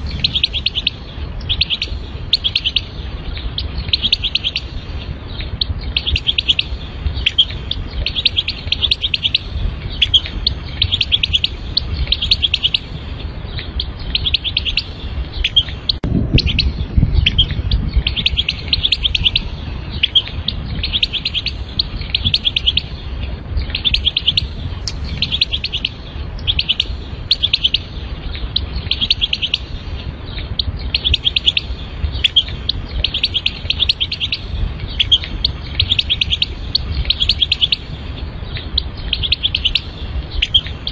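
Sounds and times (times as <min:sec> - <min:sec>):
bird twittering chirps: 0:00.0 - 0:40.9
low rumble: 0:00.0 - 0:40.9.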